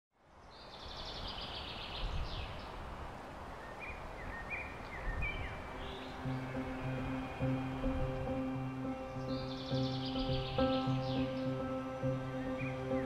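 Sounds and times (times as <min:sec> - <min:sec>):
birds singing: 0:00.3 - 0:02.8, 0:03.5 - 0:13.0.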